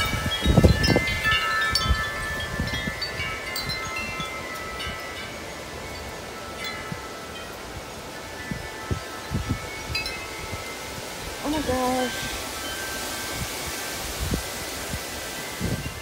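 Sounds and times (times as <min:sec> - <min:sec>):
gusty wind: 0:00.0 - 0:16.0
tubular wind chimes ringing: 0:00.0 - 0:16.0
wind buffeting microphone: 0:00.0 - 0:16.0.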